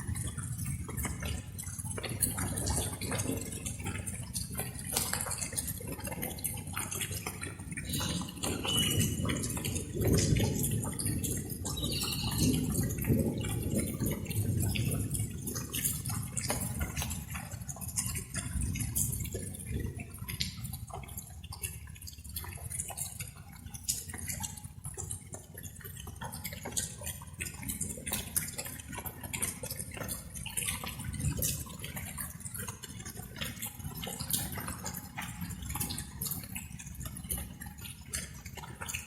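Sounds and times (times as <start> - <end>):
rain drops dripping: 0.0 - 39.0.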